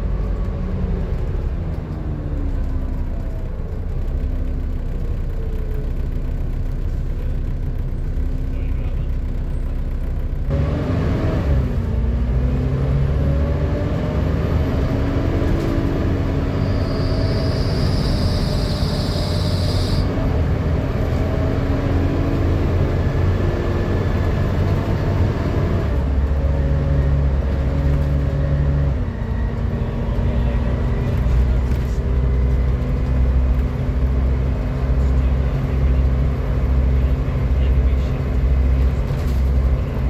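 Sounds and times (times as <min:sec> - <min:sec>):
bus diesel engine rumbling: 0:00.0 - 0:40.0.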